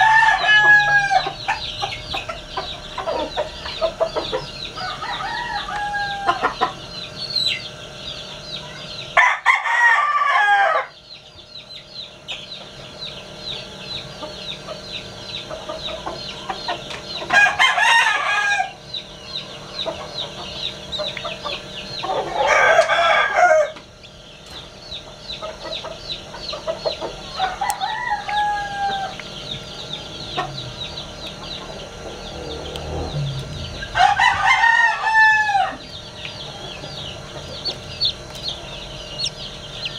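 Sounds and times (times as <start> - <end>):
chicks peeping: 0.0 - 39.9
roosters crowing: 0.0 - 39.9.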